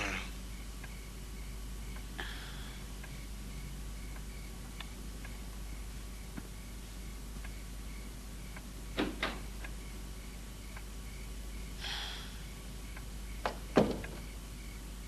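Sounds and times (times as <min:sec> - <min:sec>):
faint regular ticking: 0:00.4 - 0:15.0.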